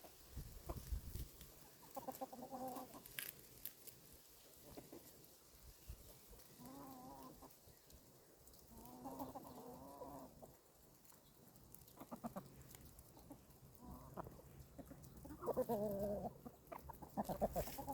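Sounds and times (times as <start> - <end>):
hens clucking: 0.0 - 3.2, 4.6 - 5.3, 6.0 - 7.9, 8.6 - 10.9, 11.6 - 17.9.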